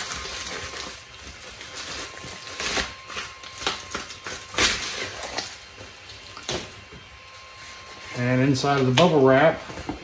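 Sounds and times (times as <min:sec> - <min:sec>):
bubble wrap crinkling: 0:00.0 - 0:09.9.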